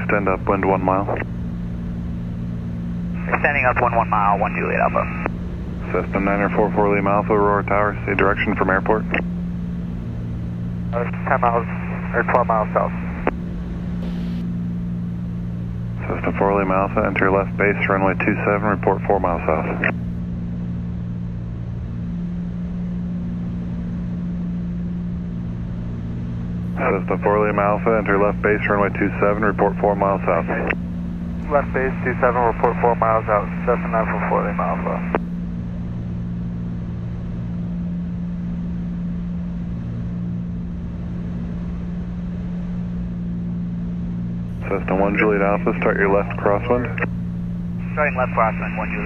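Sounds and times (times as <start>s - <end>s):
airplane engine drone in cabin: 0.0s - 49.0s.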